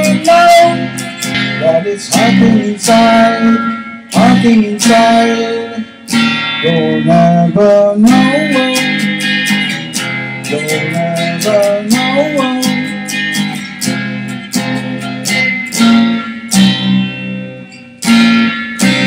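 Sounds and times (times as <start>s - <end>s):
guitar chords strummed: 0.0s - 19.0s
instrumental melody line: 0.0s - 19.0s.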